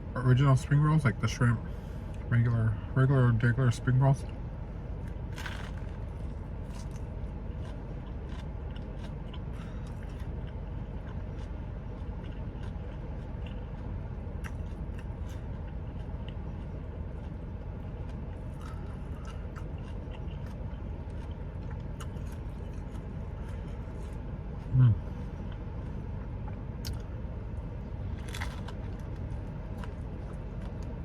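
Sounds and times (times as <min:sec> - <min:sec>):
air conditioning rushing: 0:00.0 - 0:31.0
chewing and crunching food: 0:04.2 - 0:31.0.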